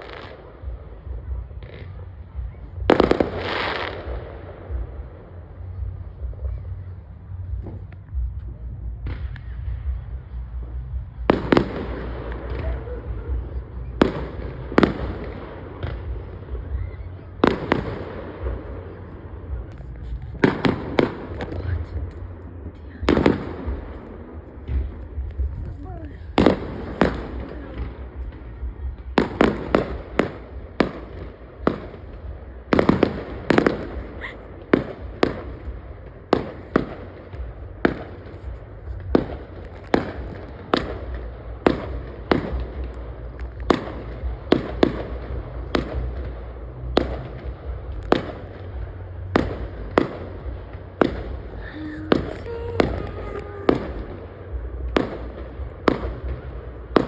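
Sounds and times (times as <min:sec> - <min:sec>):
fireworks banging: 0:00.0 - 0:06.7, 0:07.4 - 0:57.0
low rumble: 0:00.0 - 0:57.0.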